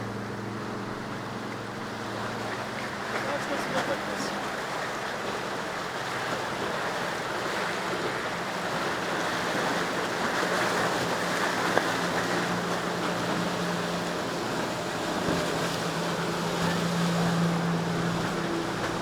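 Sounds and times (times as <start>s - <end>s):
boat engine hum: 0.0s - 19.0s
surf and waves washing: 0.0s - 19.0s.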